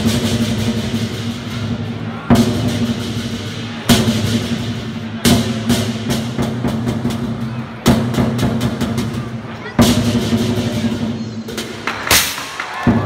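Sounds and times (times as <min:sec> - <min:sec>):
drum and cymbal strikes: 0:00.0 - 0:13.0.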